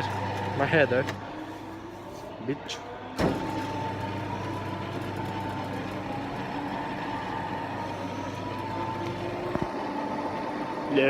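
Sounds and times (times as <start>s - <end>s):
machine hum: 0.0s - 1.9s, 3.0s - 11.0s.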